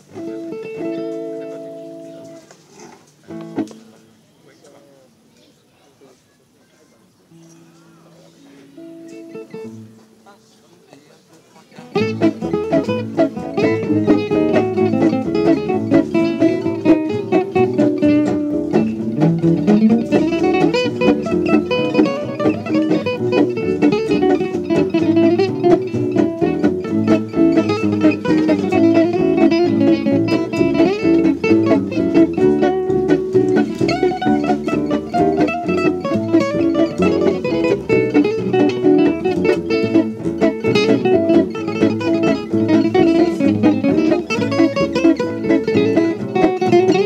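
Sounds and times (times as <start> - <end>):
acoustic guitar playing: 0.0 - 4.3, 7.3 - 10.5, 11.8 - 47.0.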